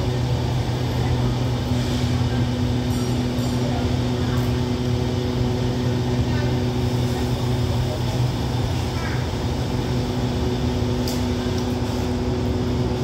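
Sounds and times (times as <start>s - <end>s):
train machinery hum: 0.0s - 13.0s.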